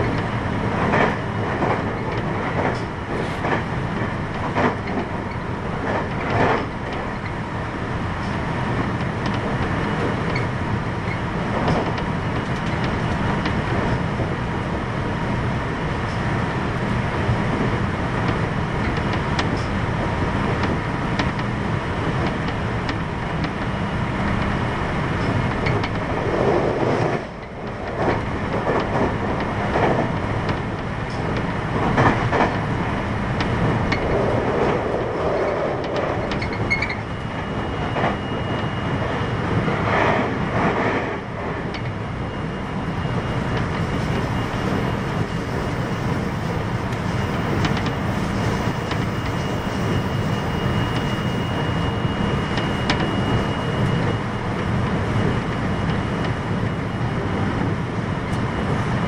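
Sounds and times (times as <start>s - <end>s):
rail-joint clicks: 0.0s - 14.7s, 16.0s - 56.8s
train wheels and motors rumbling: 0.0s - 59.0s.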